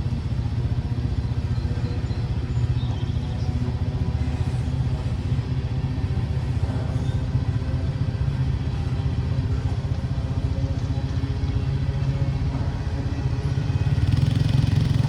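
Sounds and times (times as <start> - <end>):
vehicle rumble with flutter: 0.0 - 15.0.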